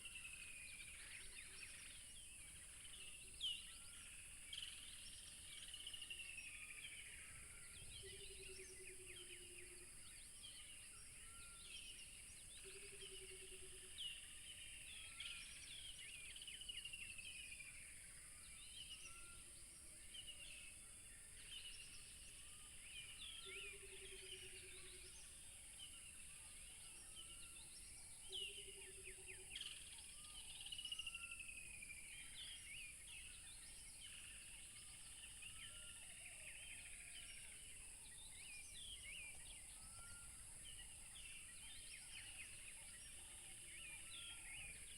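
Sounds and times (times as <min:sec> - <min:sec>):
wild birds chirping and whistling: 0:00.0 - 0:44.9.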